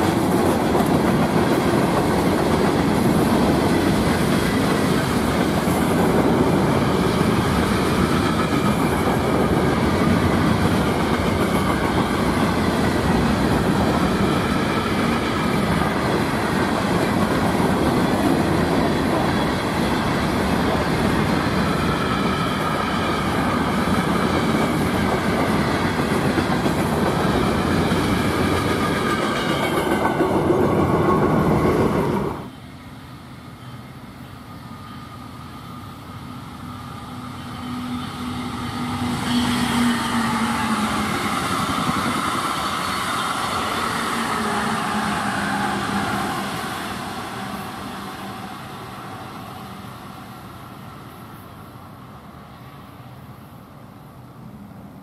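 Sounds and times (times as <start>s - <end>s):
freight train wheels rumbling: 0.0s - 53.8s.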